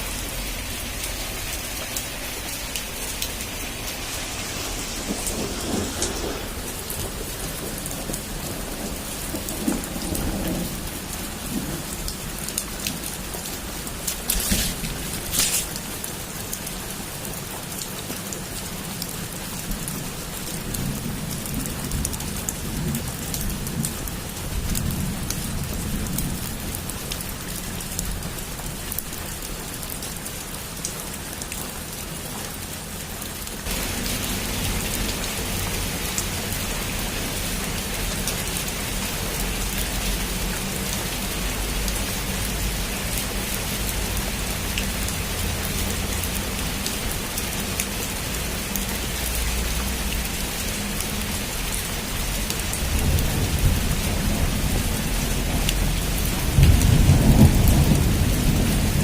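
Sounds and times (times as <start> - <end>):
heavy rain drumming on a roof: 0.0 - 59.0.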